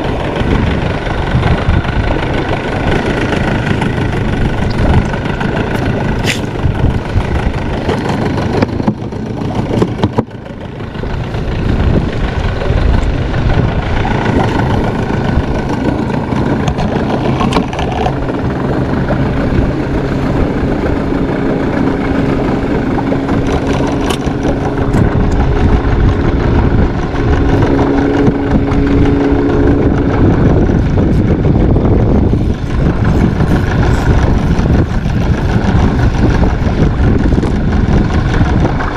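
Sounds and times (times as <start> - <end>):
low hum: 0.0 - 38.9
wind on microphone: 0.0 - 38.9.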